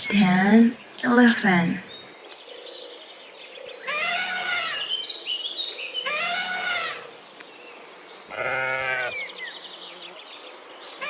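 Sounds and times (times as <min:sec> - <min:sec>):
insects: 0:00.0 - 0:11.0.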